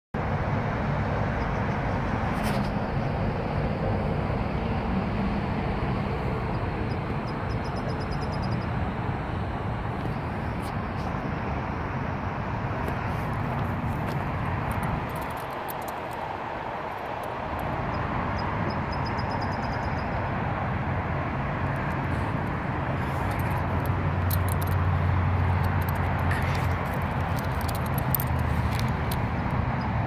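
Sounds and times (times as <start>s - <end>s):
passing vehicle engine drone: 0.2s - 30.0s
road traffic hum: 0.2s - 30.0s.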